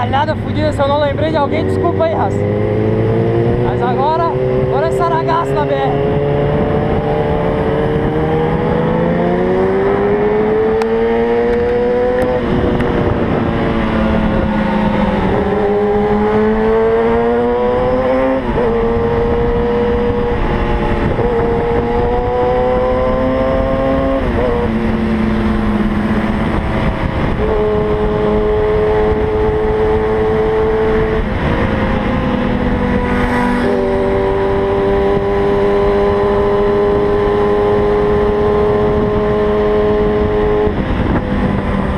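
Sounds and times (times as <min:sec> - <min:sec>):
motorcycle engine revving: 0:00.0 - 0:41.9
wind rush on microphone: 0:00.0 - 0:41.9.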